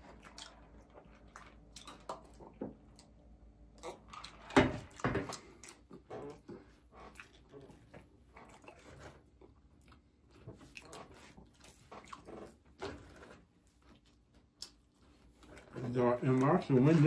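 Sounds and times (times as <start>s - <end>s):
people chewing and biting: 0.0s - 17.0s.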